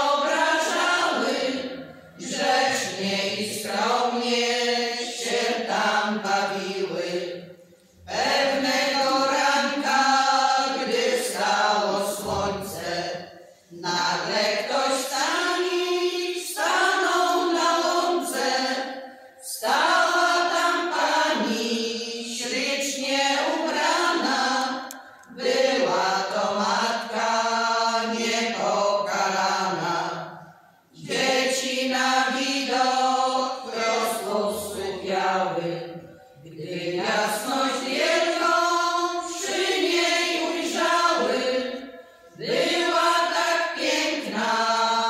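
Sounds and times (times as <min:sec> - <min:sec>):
women's choir singing unaccompanied: 0:00.0 - 0:45.0.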